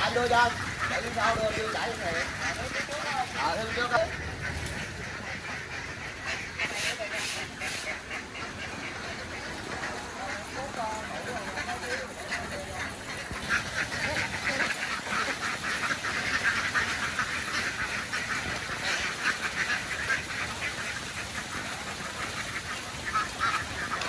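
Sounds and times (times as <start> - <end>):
flock of ducks quacking: 0.0 - 24.0.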